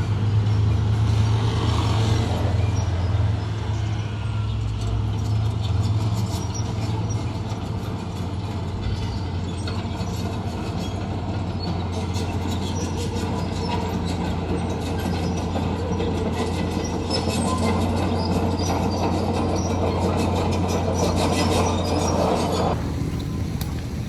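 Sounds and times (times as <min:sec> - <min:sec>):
bulldozer diesel engine running: 0:00.0 - 0:24.0
steel track links clanking: 0:02.6 - 0:24.0.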